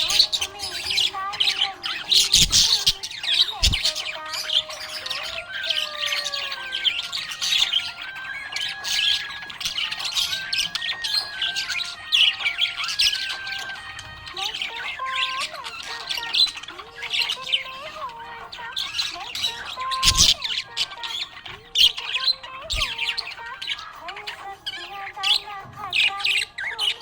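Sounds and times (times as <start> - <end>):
budgerigars chirping and warbling: 0.0 - 27.0.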